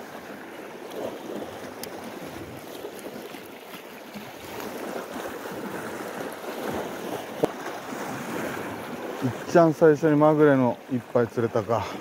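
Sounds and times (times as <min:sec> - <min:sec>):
waves lapping against rocks: 0:00.0 - 0:12.0.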